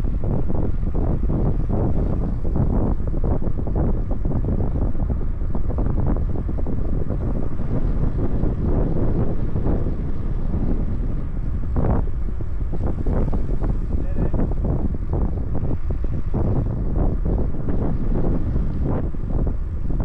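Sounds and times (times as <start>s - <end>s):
bike road noise: 0.0s - 20.0s
wind buffeting microphone: 0.0s - 20.0s.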